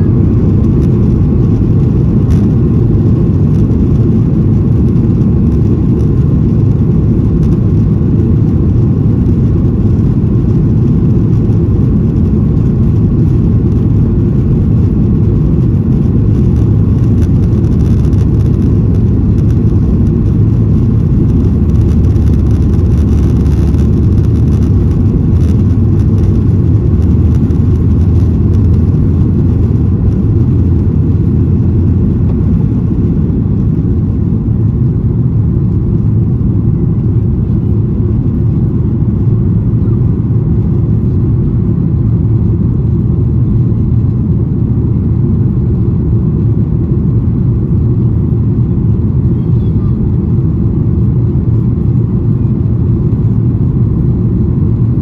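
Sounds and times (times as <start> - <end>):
jet engines roaring in cabin: 0.0 - 55.0
wheels rumbling on runway: 0.0 - 55.0.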